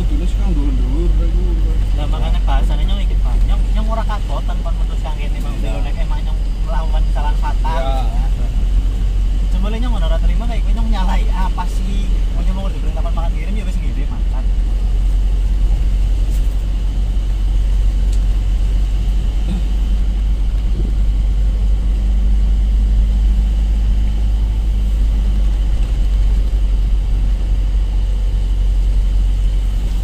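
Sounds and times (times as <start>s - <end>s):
road noise: 0.0s - 30.0s
truck engine rumbling: 0.0s - 30.0s.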